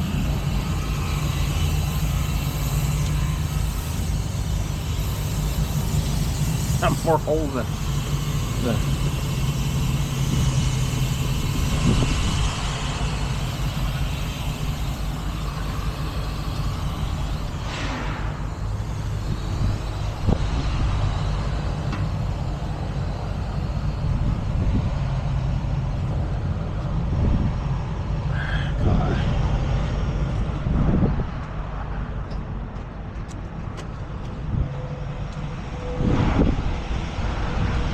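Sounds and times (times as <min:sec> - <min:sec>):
truck engine idling: 0:00.0 - 0:30.6.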